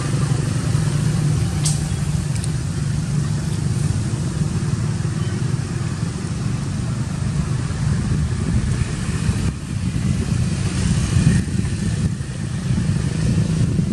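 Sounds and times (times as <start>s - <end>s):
vehicle engine rumbling: 0.0s - 13.9s.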